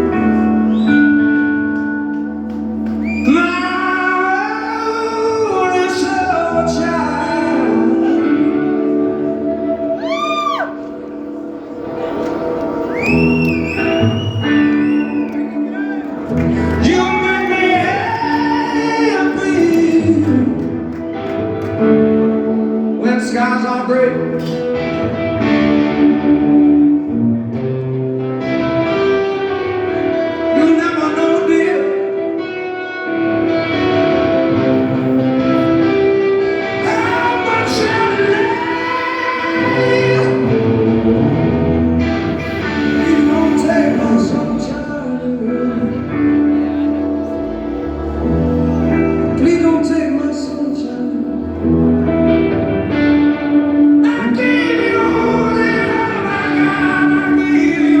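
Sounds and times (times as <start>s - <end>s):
rock song with singing: 0.0s - 58.0s.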